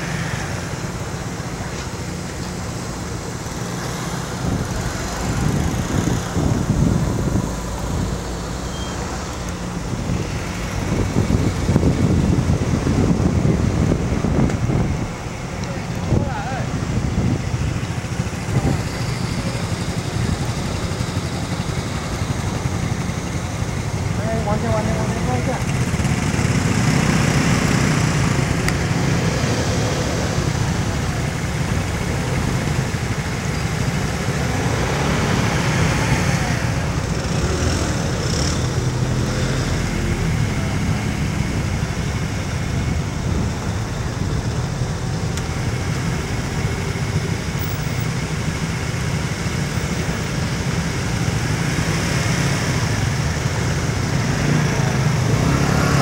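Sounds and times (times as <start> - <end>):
distant road traffic rumble: 0.0 - 56.0.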